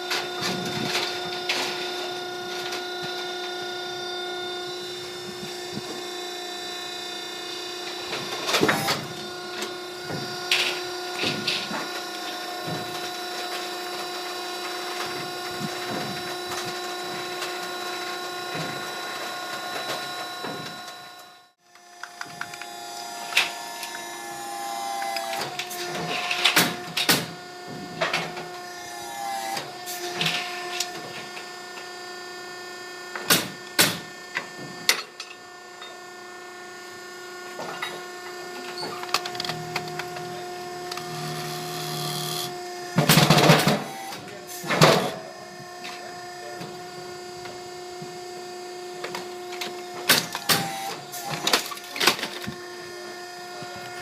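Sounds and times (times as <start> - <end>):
hydraulic power unit humming: 0.0 - 54.0.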